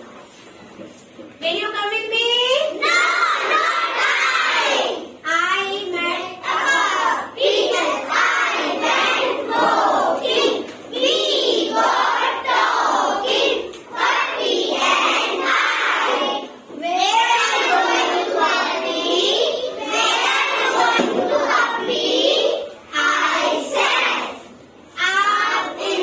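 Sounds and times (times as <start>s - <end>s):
children chanting in unison: 2.8s - 5.3s, 5.9s - 26.0s.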